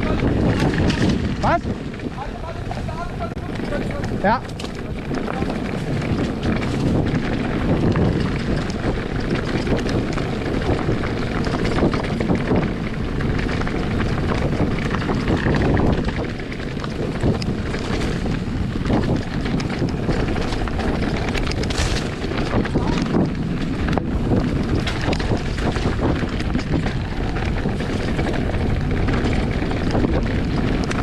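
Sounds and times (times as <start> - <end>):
small clicks and rattles: 0.0 - 31.0
tyres rumbling on dirt path: 0.0 - 31.0
wind buffeting microphone: 0.0 - 31.0.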